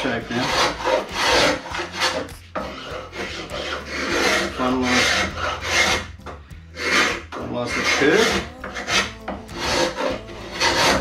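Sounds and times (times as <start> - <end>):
spokeshave shaving wood: 0.0 - 11.0.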